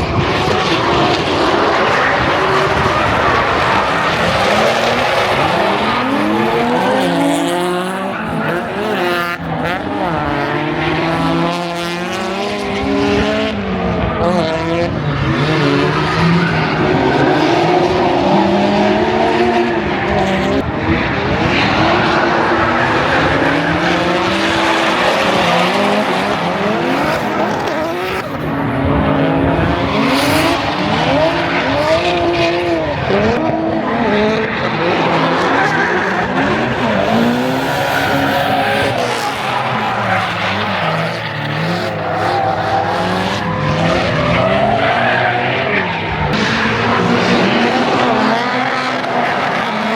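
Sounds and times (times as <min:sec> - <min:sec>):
car engines revving hard: 0:00.0 - 0:49.9.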